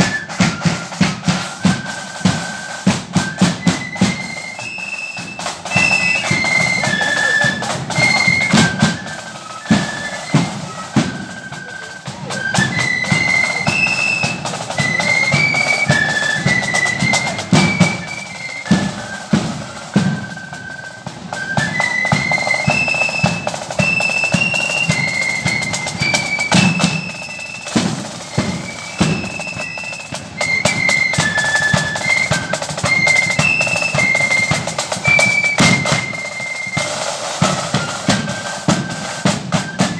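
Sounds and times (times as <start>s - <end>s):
flutes playing melody: 0.0s - 39.9s
snare drums: 0.0s - 39.9s.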